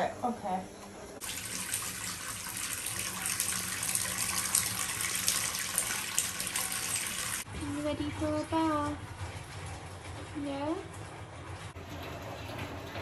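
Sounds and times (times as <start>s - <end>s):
water running into bathtub: 1.2s - 13.0s.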